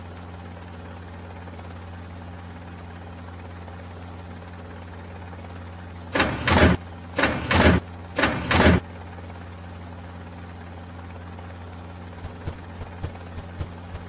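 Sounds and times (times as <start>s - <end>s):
cartoon helicopter drone: 0.0s - 14.0s.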